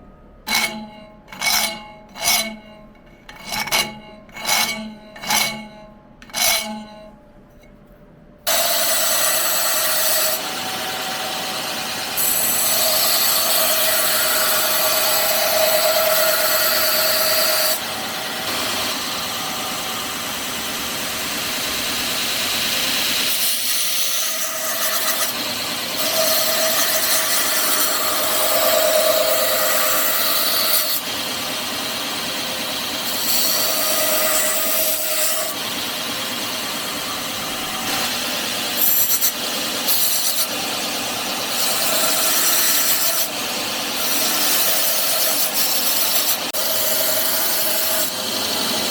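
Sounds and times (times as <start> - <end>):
file strokes on metal: 0.5 - 7.0, 8.5 - 11.5, 12.1 - 19.8, 22.6 - 31.2, 32.9 - 35.8, 36.7 - 40.7, 41.4 - 48.9
power tool grinding steel: 0.5 - 7.0, 8.5 - 48.9.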